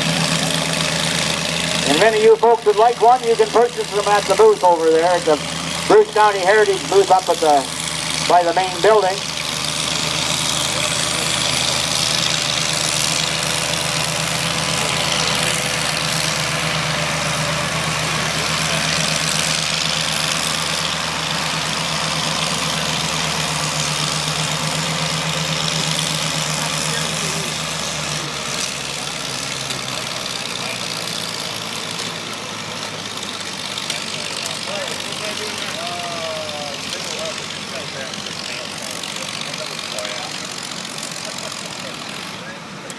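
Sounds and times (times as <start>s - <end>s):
tractor engine droning: 0.0s - 42.9s.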